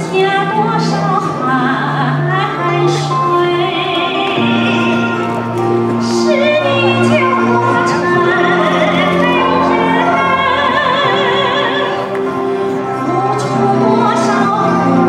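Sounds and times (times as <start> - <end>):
sustained instrumental accompaniment: 0.0 - 15.0
woman singing with vibrato: 0.0 - 15.0.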